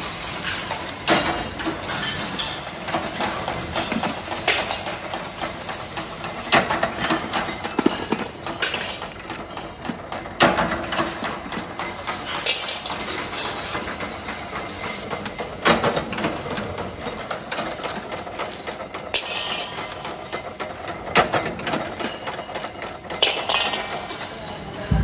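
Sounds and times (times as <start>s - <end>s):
steel parts clanking: 0.0s - 25.0s
workshop machinery running: 0.0s - 25.0s.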